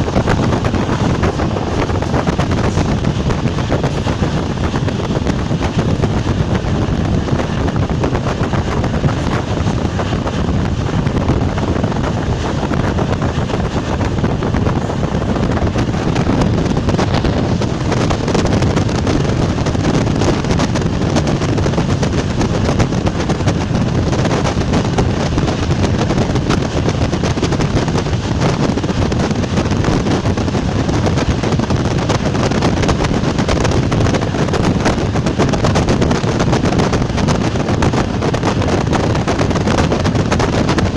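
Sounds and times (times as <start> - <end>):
train rumbling and clattering: 0.0 - 40.9
wind noise: 0.0 - 40.9.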